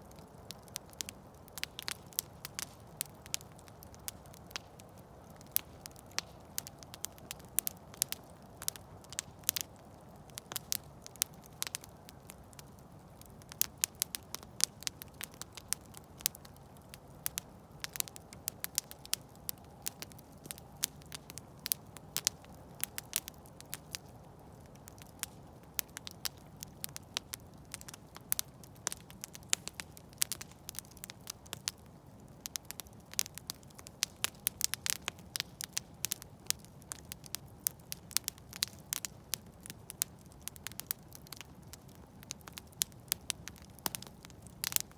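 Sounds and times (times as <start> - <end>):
low rumble of flame: 0.0 - 44.9
wood crackling and popping: 0.0 - 44.9.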